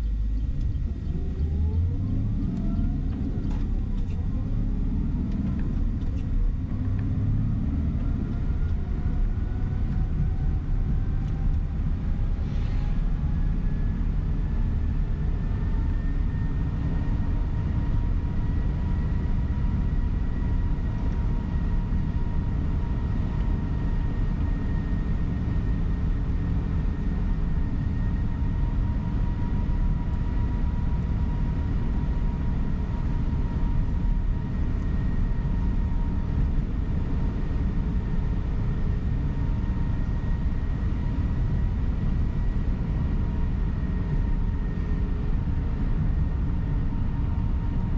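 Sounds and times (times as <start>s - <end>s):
coach engine and road rumble: 0.0s - 47.9s.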